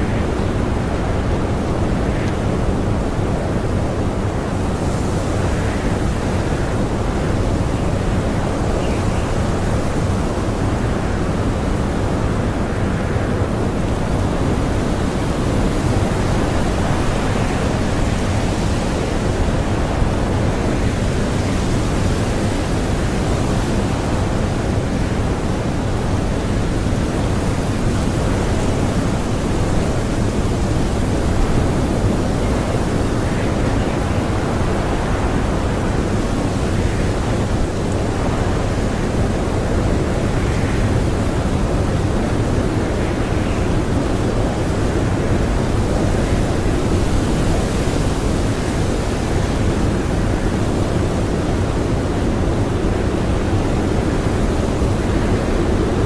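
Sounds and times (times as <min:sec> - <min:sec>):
blizzard wind rushing: 0:00.0 - 0:56.0.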